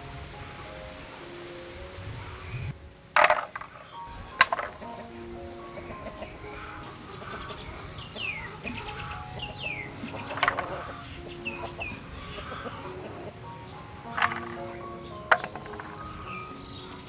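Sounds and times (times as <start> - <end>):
high falling peeps: 0.0 - 17.0
chickens clucking: 2.2 - 17.0.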